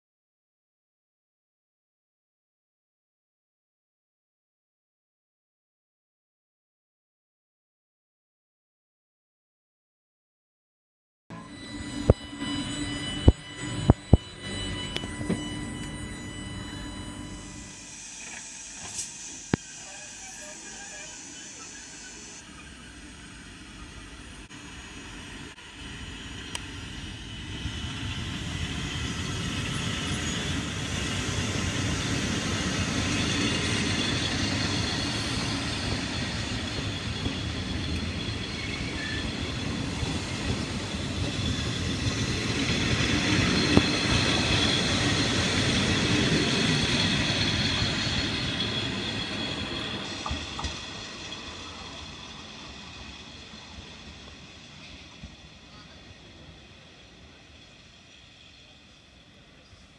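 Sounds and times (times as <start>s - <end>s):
electric train passing: 11.3s - 59.9s.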